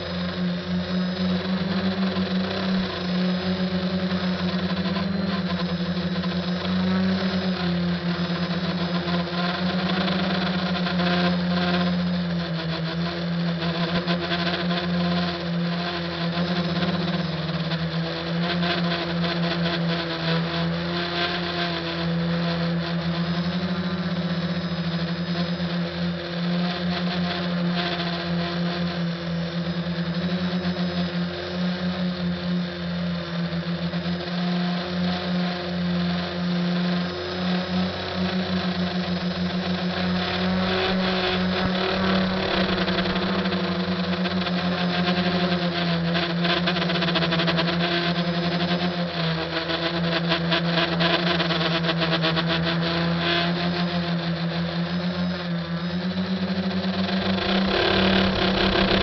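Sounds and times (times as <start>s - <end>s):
quadcopter motors buzzing: 0.0s - 59.0s.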